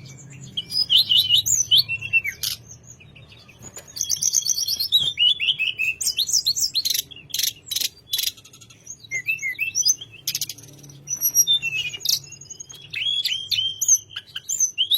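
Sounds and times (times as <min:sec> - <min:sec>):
songbird chirping and trilling: 0:00.0 - 0:14.9.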